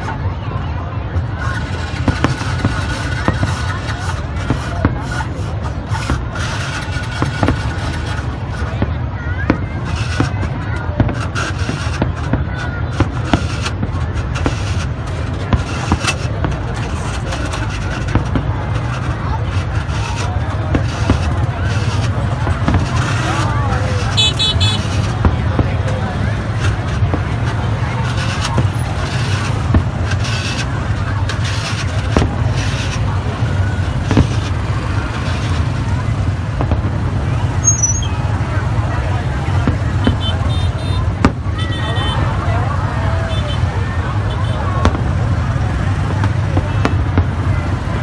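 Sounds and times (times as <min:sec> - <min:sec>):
crowd street din: 0:00.0 - 0:48.0
motorbike traffic: 0:00.0 - 0:48.0
road noise: 0:00.0 - 0:48.0
vehicle engines running: 0:00.0 - 0:48.0
voices: 0:00.0 - 0:48.0
fireworks bangs: 0:01.1 - 0:48.0.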